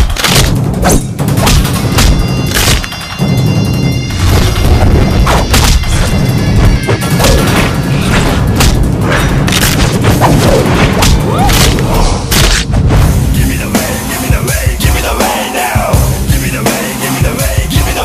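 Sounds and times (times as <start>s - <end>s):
dramatic music with booming hits: 0.0s - 18.0s.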